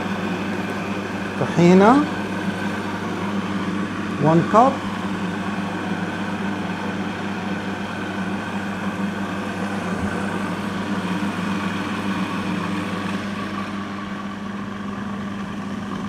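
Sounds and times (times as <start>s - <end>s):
food processor motor humming: 0.0s - 16.0s.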